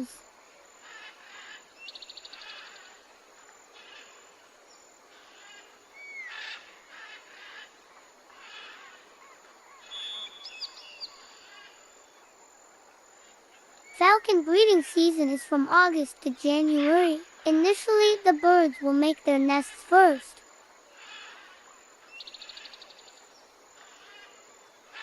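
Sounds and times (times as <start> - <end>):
outdoor background hiss: 0.0 - 25.0
bird calls: 0.8 - 3.0, 5.1 - 12.4, 13.2 - 25.0.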